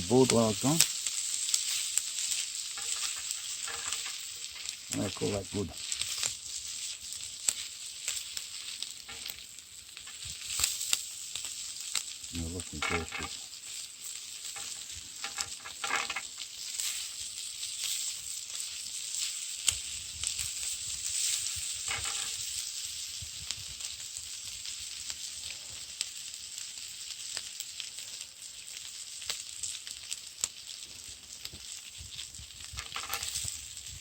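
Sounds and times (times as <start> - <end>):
food sizzling over a fire: 0.0 - 34.0.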